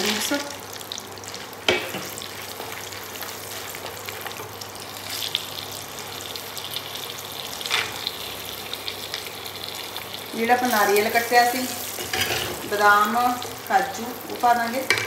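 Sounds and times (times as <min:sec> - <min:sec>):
nuts sizzling in hot ghee: 0:00.0 - 0:15.0.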